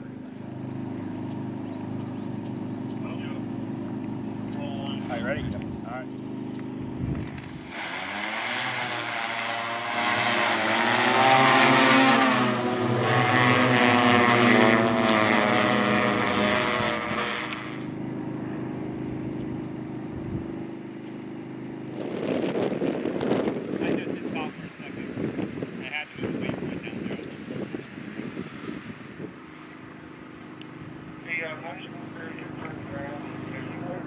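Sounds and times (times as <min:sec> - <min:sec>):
drone propellers buzzing: 0:00.0 - 0:34.0.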